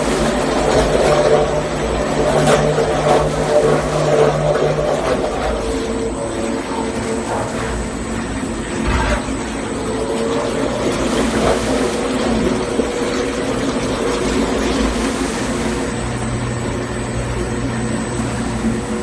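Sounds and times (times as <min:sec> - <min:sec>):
deeper motor hum: 0:00.0 - 0:19.0
mixing tank motors humming: 0:00.0 - 0:19.0.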